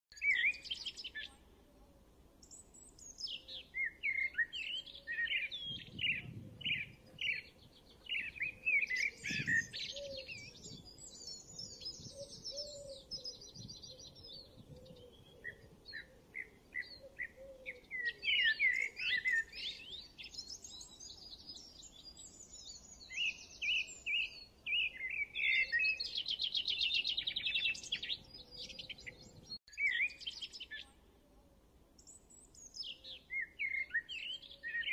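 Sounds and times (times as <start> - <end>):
birds chirping and trilling: 0.1 - 31.0, 32.0 - 34.9.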